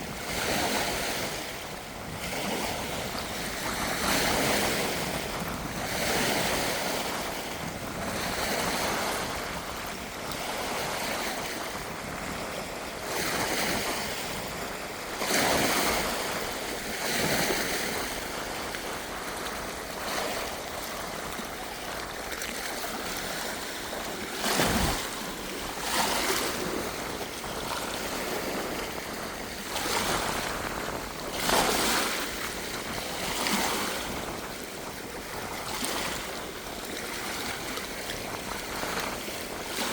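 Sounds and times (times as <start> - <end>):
wind buffeting microphone: 0.0 - 39.9
strong gusting wind: 1.8 - 39.8.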